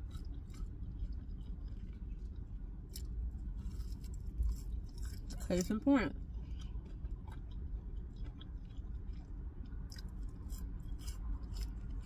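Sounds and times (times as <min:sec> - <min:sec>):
low steady hum: 0:00.0 - 0:12.0
person chewing food: 0:00.0 - 0:12.0.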